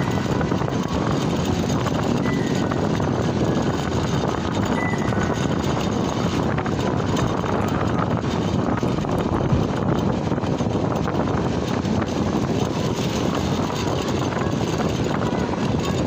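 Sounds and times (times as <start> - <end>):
motorcycle engine and wind noise: 0.0 - 16.0.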